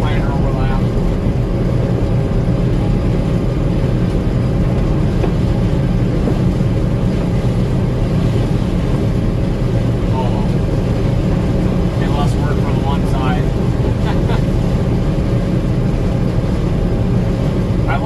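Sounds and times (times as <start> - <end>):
combine harvester machinery drone: 0.0 - 18.0.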